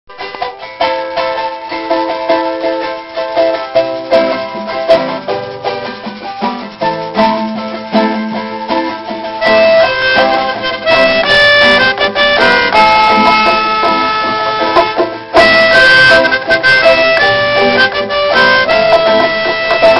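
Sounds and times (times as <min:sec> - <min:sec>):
melodica playing a tune: 0:00.1 - 0:19.9
strummed charango: 0:00.1 - 0:19.9.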